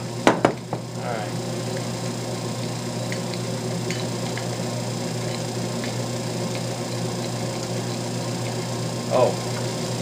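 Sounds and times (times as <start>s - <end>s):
metal lathe running: 0.0s - 10.0s.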